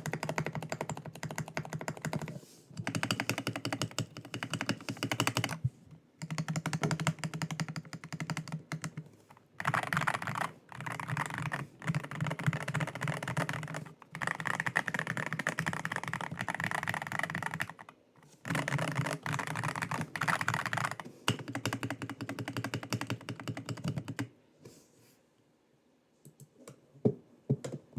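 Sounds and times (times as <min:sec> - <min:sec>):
mechanical keyboard typing: 0:00.0 - 0:05.6, 0:06.2 - 0:24.3.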